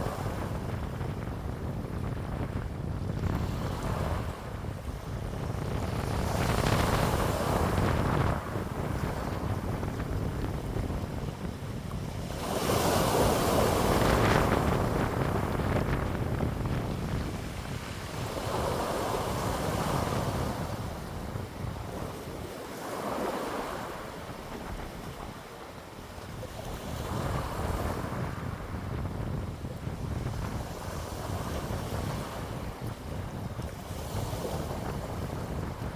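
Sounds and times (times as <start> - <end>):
wind blowing in gusts: 0.0 - 35.9
wind buffeting microphone: 0.0 - 35.9.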